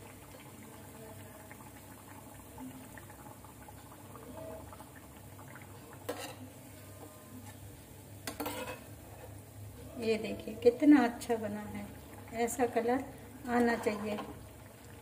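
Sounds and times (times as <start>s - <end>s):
ghee bubbling and sizzling: 0.0s - 15.0s.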